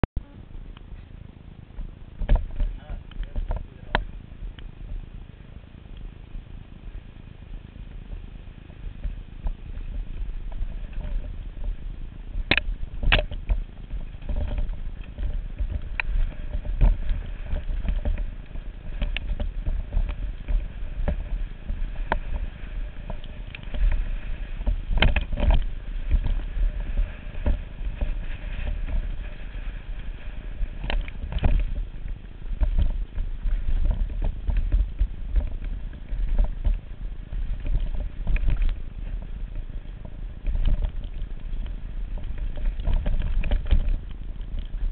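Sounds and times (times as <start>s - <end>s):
wind buffeting microphone: 0.2s - 44.9s
bike rattling and knocking: 1.7s - 5.2s, 6.6s - 44.9s.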